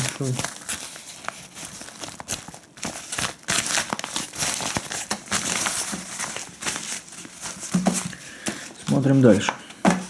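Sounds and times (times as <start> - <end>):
fabric pouch rustling: 0.0 - 8.2.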